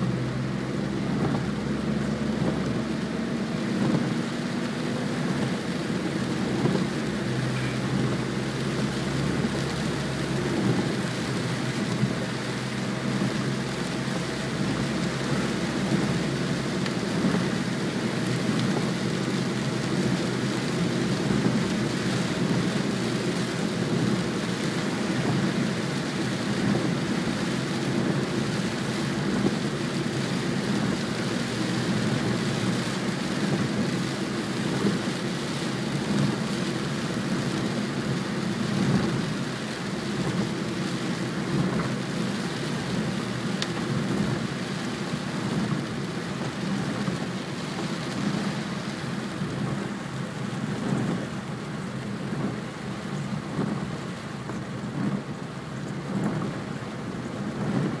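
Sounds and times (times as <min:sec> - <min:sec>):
rain on car windshield: 0:00.0 - 0:58.0
tyre noise on wet road: 0:00.0 - 0:58.0.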